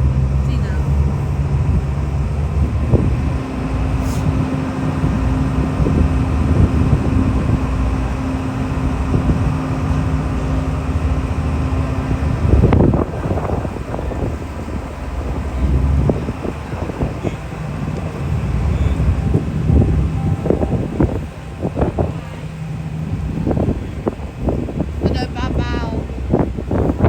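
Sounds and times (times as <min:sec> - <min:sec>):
droning hum: 0:00.0 - 0:27.0
low engine rumble: 0:00.0 - 0:27.0
wind buffeting microphone: 0:00.0 - 0:27.0.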